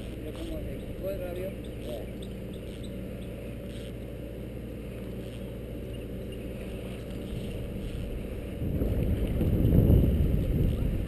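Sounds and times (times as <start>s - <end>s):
small boat motor droning: 0.0s - 11.0s.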